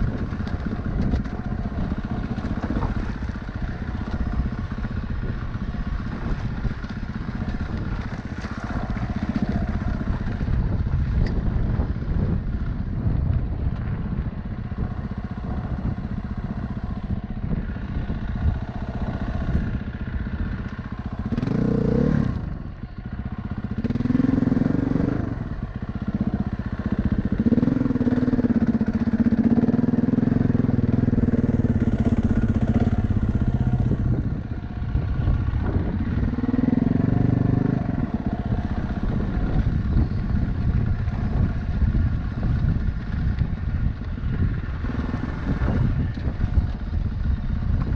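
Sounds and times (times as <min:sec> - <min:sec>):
off-road vehicle engine revving: 0:00.0 - 0:12.5, 0:20.4 - 0:22.7, 0:23.3 - 0:47.9.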